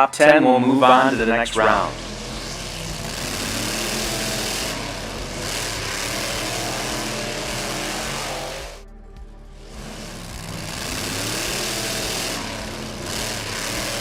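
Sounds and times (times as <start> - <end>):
engine running steadily: 1.2 - 14.0.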